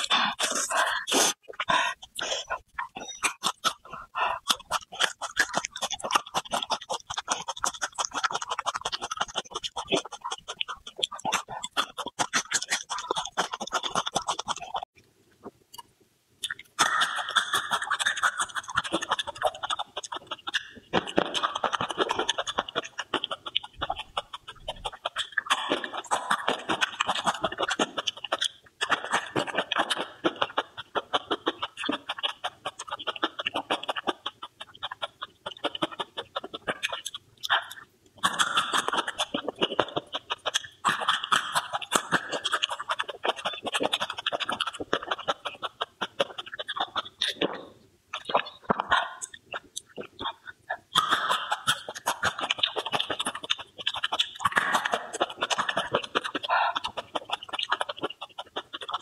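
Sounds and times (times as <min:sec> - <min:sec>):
wet chewing and lip smacks: 0:00.0 - 0:59.0.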